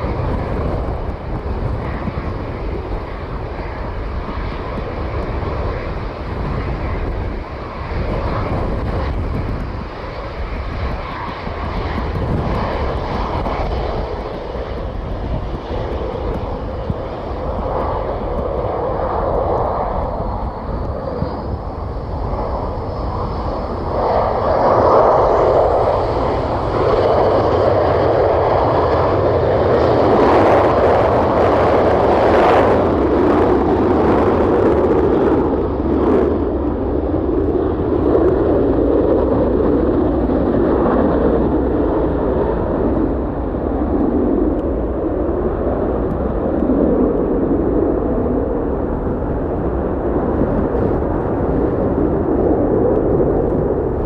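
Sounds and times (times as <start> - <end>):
aircraft engines roaring: 0.0 - 54.0.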